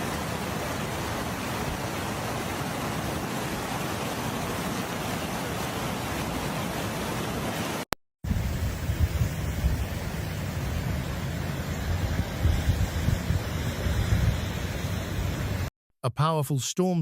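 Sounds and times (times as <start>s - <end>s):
floodwater rushing: 0.0s - 15.7s.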